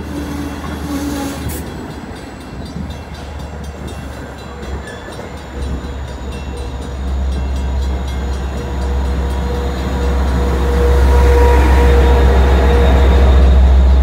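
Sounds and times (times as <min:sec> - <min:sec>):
diesel locomotive rumble: 0:00.0 - 0:14.0
train wheels rumbling on rail: 0:00.0 - 0:14.0.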